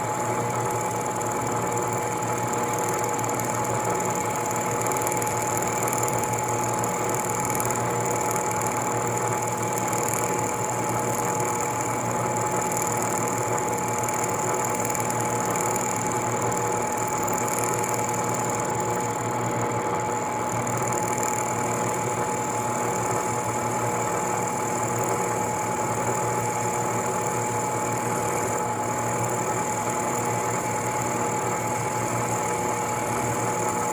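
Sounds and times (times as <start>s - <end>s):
milling machine mechanical whine: 0.0s - 33.9s
motor hum: 0.0s - 33.9s.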